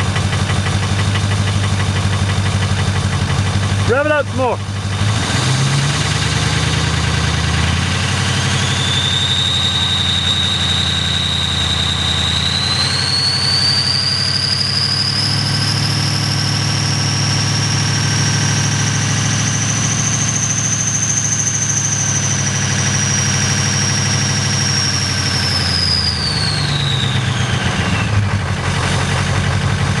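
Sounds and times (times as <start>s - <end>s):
diesel engine revving: 0.0s - 30.0s
high turbo whine: 0.0s - 30.0s.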